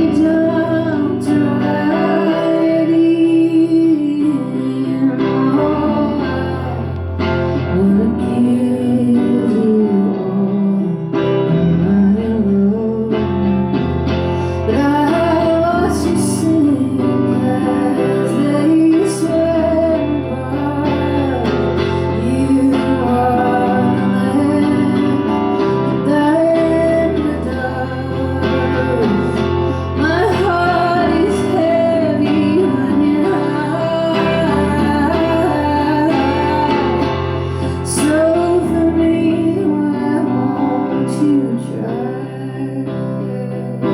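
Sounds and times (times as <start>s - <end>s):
guitar: 0.0s - 43.9s
woman singing slow song: 0.0s - 43.9s.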